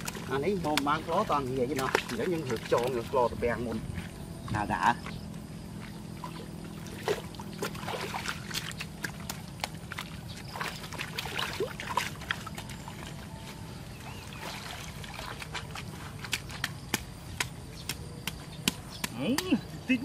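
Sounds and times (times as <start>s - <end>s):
hands squelching through wet mud: 0.0s - 20.0s
water splashes and slaps: 0.0s - 20.0s.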